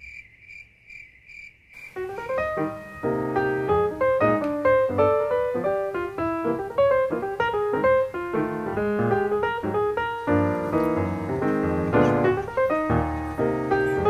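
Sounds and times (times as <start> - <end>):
piano music: 2.0 - 14.0.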